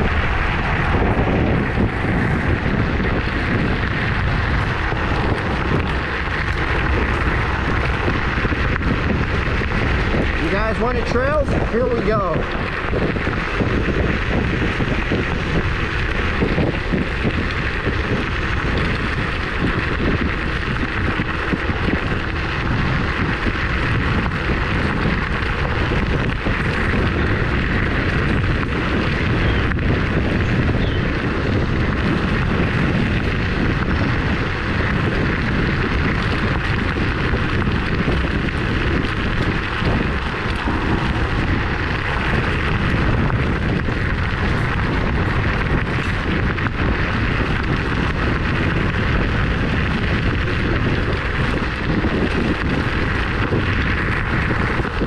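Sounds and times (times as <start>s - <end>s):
tyres rolling over gravel: 0.0s - 55.0s
wind on microphone: 0.0s - 55.0s.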